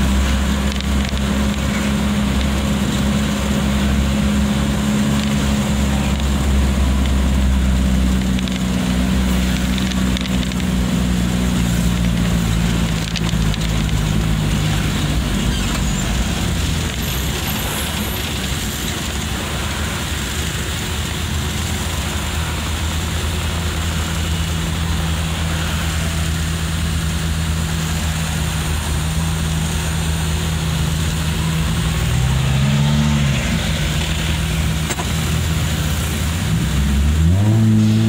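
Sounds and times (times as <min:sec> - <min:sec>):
road and traffic noise: 0:00.0 - 0:38.0
vehicle engine low hum: 0:00.0 - 0:38.0.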